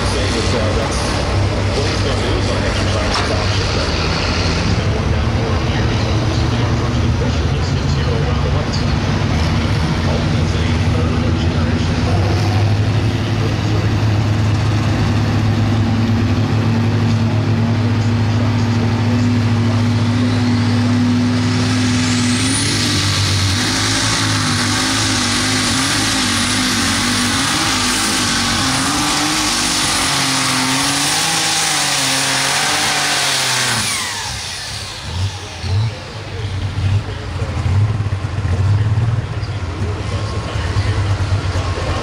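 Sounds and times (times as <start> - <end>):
pulling tractor engine at full power: 0.0 - 42.0.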